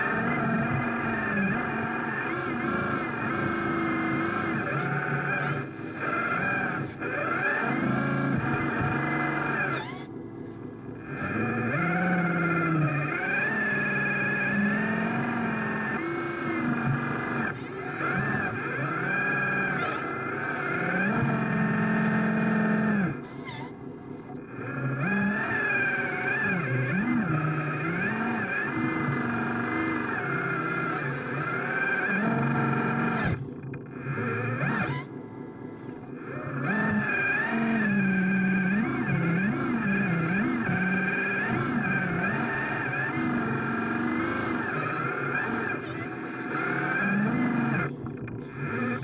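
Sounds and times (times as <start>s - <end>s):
small motors whining: 0.0s - 49.0s.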